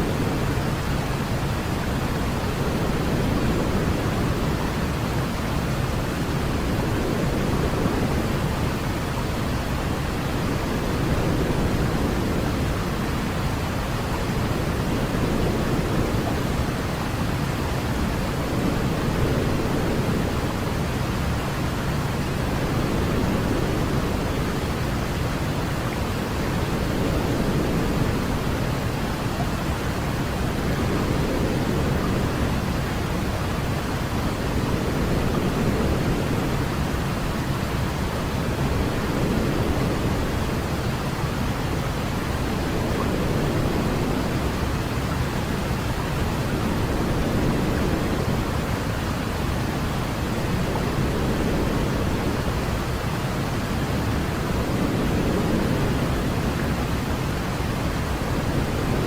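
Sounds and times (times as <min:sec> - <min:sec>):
low pink noise: 0:00.0 - 0:59.0.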